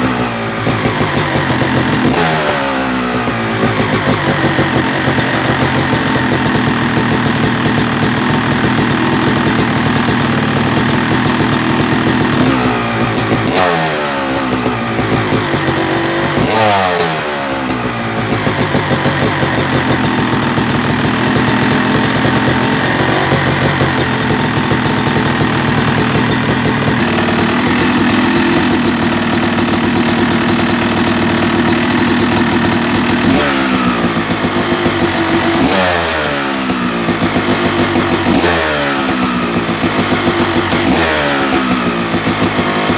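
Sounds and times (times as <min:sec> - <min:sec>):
two-stroke motorcycle engine revving: 0:00.0 - 0:42.9.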